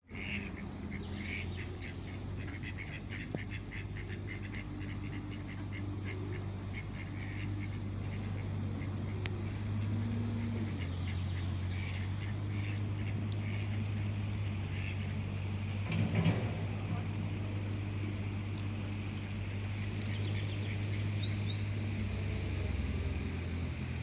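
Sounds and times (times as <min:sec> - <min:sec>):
steady low hum: 0:00.1 - 0:24.0.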